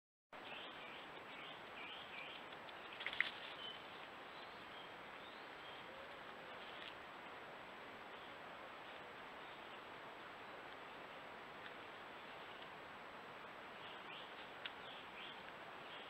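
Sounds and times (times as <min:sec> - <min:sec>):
microphone hiss: 0:00.4 - 0:16.0.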